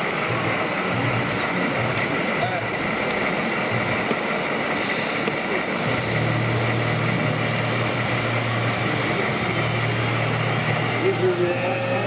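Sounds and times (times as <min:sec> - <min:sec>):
steady low machine drone: 0:00.0 - 0:12.0.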